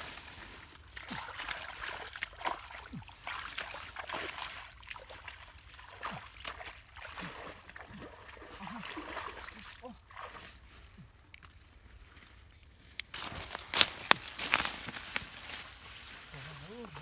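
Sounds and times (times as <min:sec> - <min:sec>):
boots splashing in mud: 0:00.0 - 0:10.6, 0:13.1 - 0:17.0.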